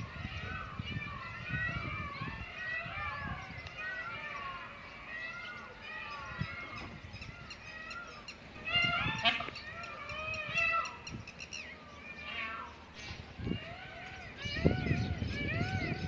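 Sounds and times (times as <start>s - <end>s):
peafowl calling: 1.2s - 16.0s.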